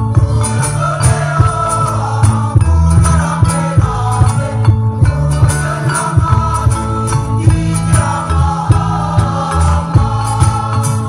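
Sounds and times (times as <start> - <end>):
bass line: 0.0 - 11.0
choir singing: 0.0 - 11.0
percussion beat with jingles: 0.0 - 11.0.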